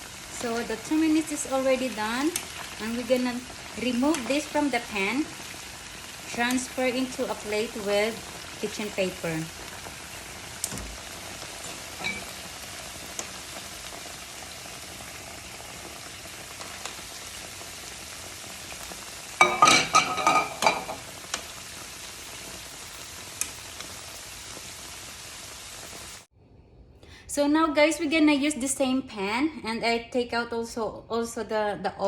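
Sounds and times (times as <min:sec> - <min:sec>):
chicken frying in hot oil: 0:00.0 - 0:26.3.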